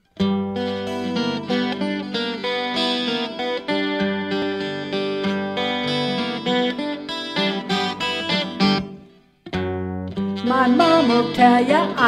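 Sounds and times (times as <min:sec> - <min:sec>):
guitar playing separate notes: 0:00.0 - 0:12.0.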